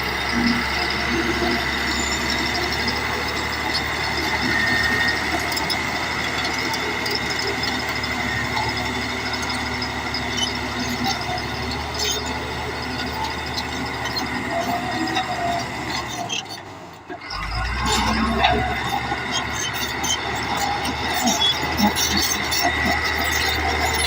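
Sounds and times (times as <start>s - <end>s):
bulldozer diesel engine drone: 0.0s - 24.0s.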